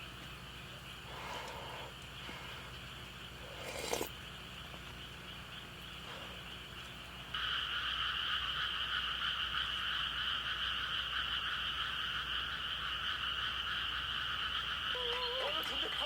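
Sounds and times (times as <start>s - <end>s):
chorus of frogs calling: 0.0s - 16.0s.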